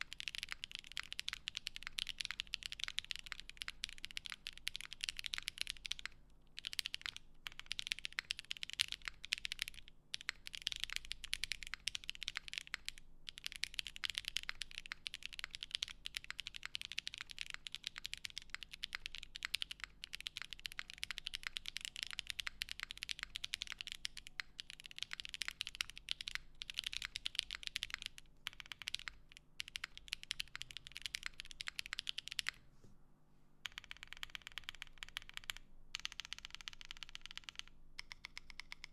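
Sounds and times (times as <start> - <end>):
mechanical keyboard typing: 0.0 - 32.6, 33.6 - 38.9.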